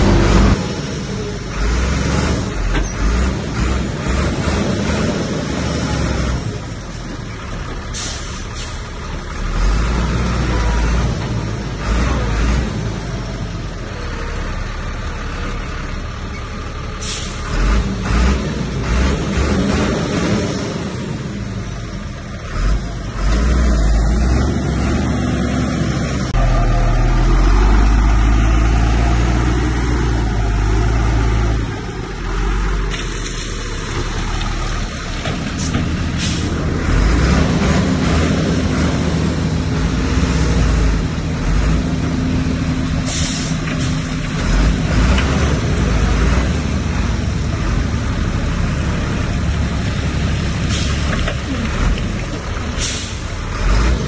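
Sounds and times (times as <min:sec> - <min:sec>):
diesel machinery running: 0:00.0 - 0:54.0.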